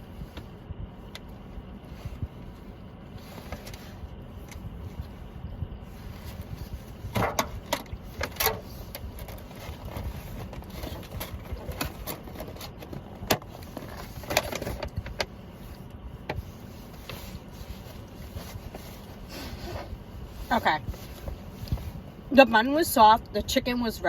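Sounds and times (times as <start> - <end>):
low rumble: 0.0 - 22.4.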